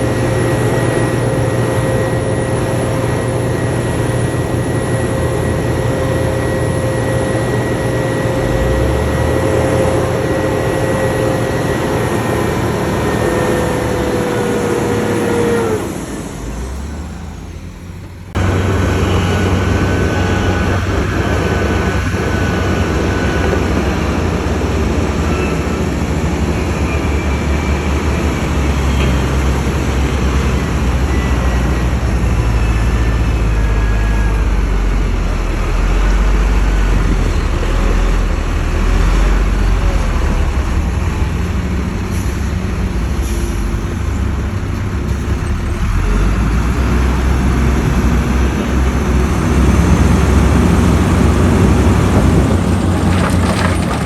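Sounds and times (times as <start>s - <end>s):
heavy machinery engine rumble: 0.0s - 54.0s.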